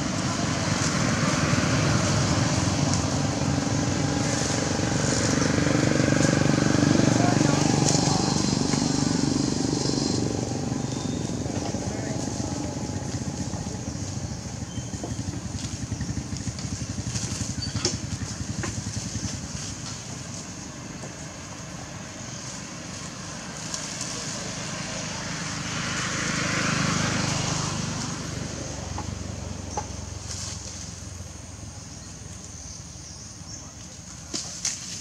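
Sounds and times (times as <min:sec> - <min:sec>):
small engine running: 0:00.0 - 0:31.7.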